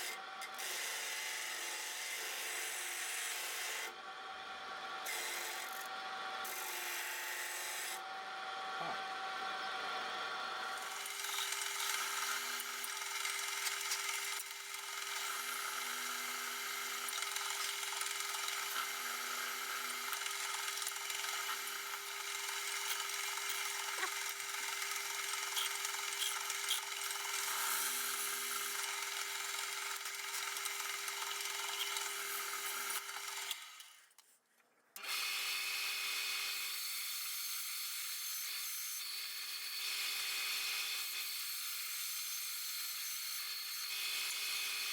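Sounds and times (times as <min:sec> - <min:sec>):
electric grinder grinding steel: 0:00.0 - 0:34.0, 0:35.0 - 0:44.9.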